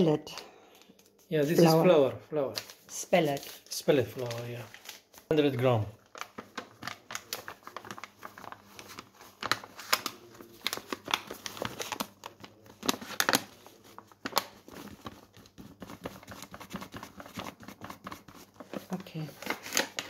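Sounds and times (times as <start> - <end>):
paper bag crinkling: 2.6 - 20.0.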